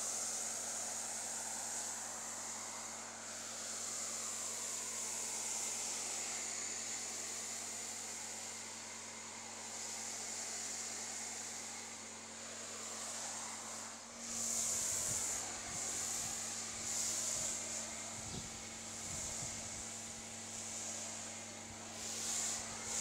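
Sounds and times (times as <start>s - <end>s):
steady hiss: 0.0s - 23.0s
pressure washer spraying car: 0.1s - 23.0s.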